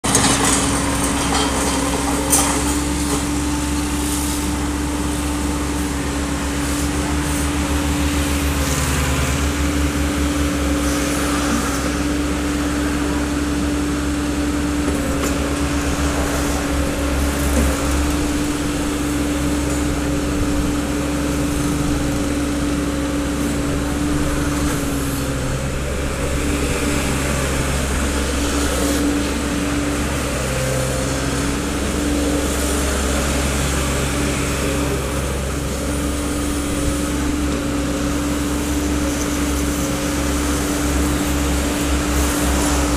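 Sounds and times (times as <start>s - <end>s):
mini excavator diesel engine: 0.0s - 42.9s.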